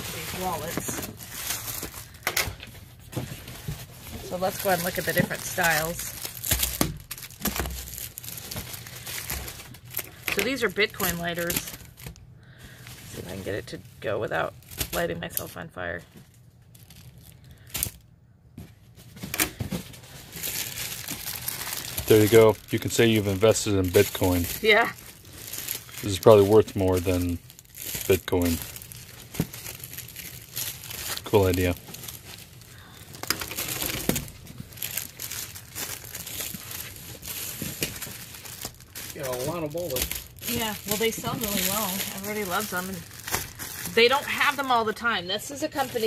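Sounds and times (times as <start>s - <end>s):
plastic packaging crinkling: 0.0s - 18.1s, 18.9s - 46.0s.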